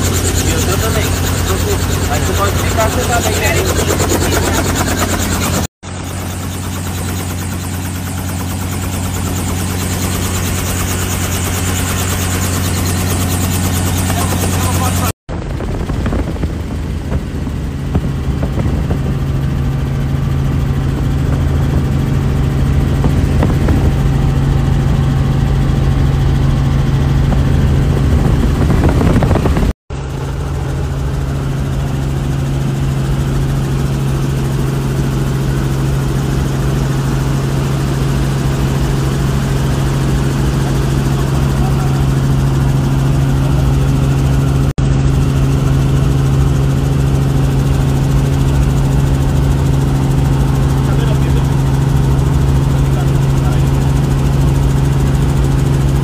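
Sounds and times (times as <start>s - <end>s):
helicopter engine and rotors droning: 0.0s - 56.0s.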